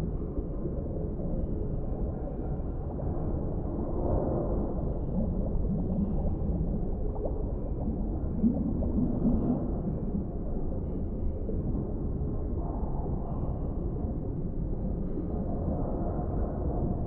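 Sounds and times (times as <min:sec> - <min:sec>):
bubbling gurgles: 0:00.0 - 0:17.0
muffled underwater rumble: 0:00.0 - 0:17.0.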